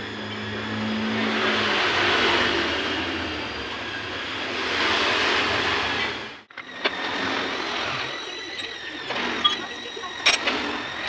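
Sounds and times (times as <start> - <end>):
machinery rushing noise: 0.0 - 11.0.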